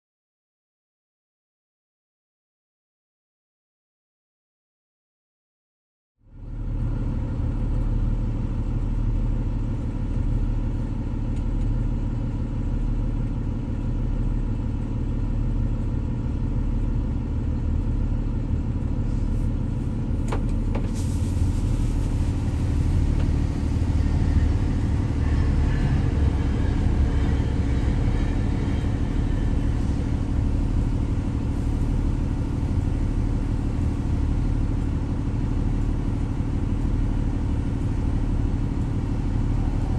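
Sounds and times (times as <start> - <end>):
diesel locomotive running: 6.2 - 39.9.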